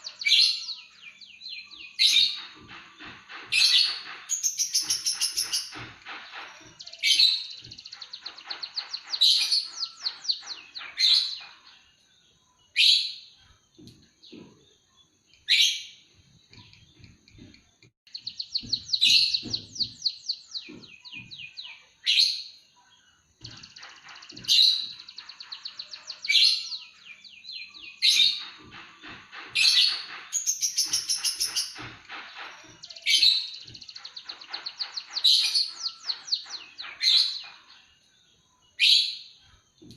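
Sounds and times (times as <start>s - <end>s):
songbird trills and chirps: 0.0s - 39.9s.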